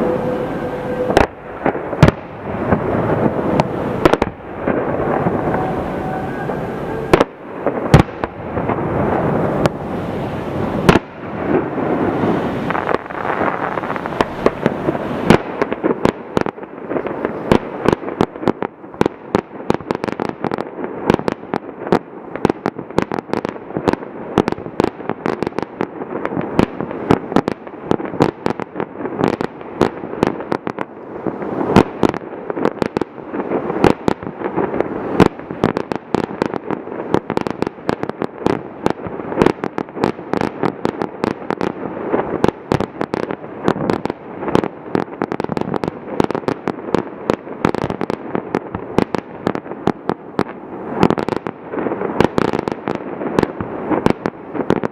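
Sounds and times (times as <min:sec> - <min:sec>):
fireworks bangs and pops: 0:00.0 - 0:05.6, 0:07.1 - 0:54.9.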